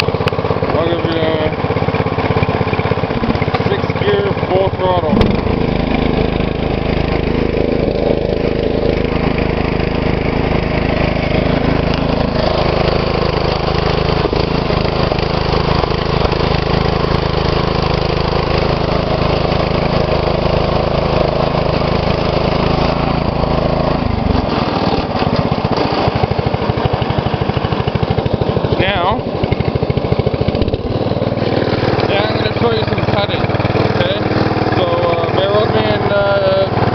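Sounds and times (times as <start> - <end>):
lawn tractor engine running: 0.0 - 36.9.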